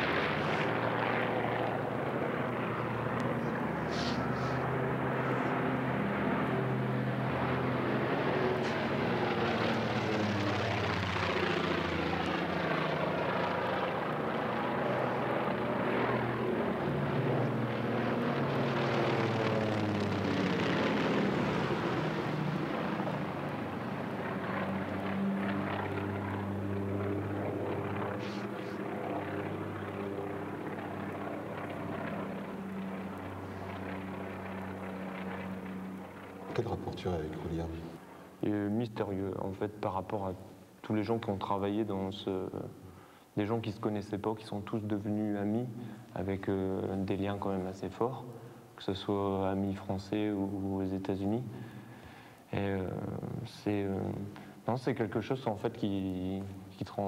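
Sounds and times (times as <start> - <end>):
propeller plane flying over: 0.0 - 57.0.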